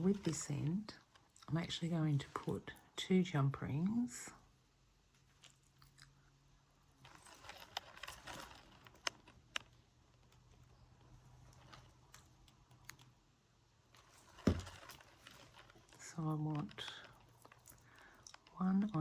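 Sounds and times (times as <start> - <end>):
faint handling noise: 0.0 - 19.0.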